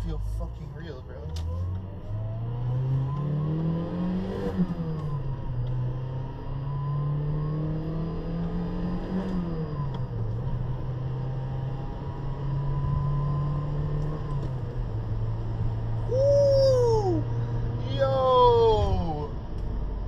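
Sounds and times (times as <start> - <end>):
car engine revving: 1.3 - 19.2.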